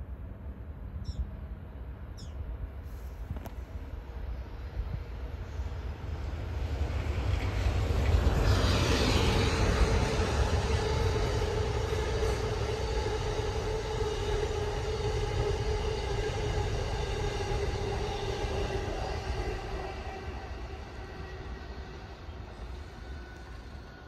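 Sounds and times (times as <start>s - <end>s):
electric locomotive hum: 0.0s - 24.0s
wheels rumbling on track: 3.0s - 24.0s.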